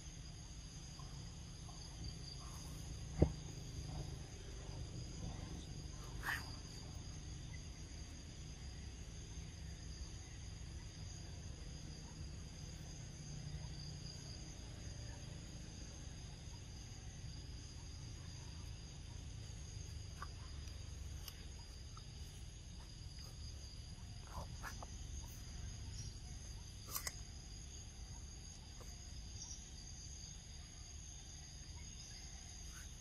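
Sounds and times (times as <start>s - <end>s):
insect chorus: 0.0s - 33.0s
low background rumble: 0.3s - 33.0s.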